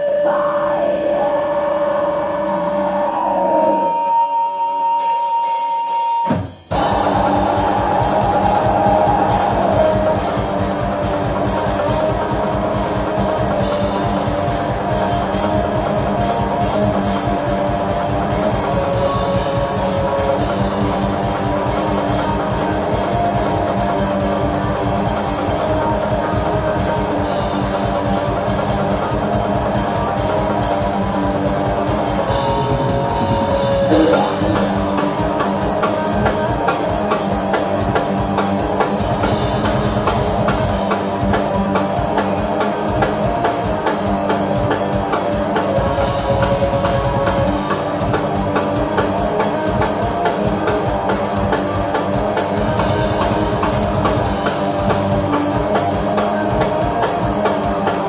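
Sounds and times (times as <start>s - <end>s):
distorted electric guitars: 0.0s - 58.0s
rapid drumming: 5.7s - 58.0s.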